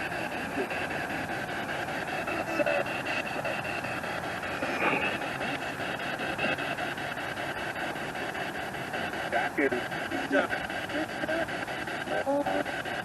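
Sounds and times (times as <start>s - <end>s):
radio static with rapid blips: 0.0s - 13.0s.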